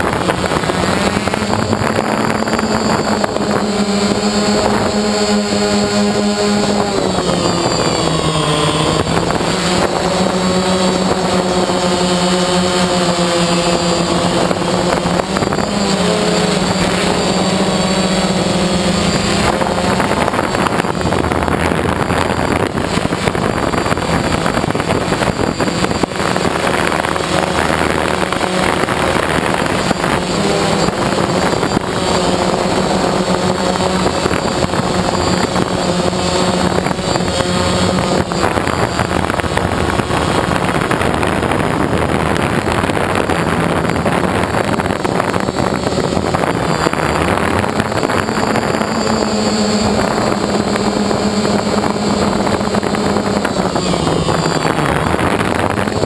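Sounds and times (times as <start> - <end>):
drone propellers buzzing: 0.0 - 56.0
wind on microphone: 0.0 - 56.0.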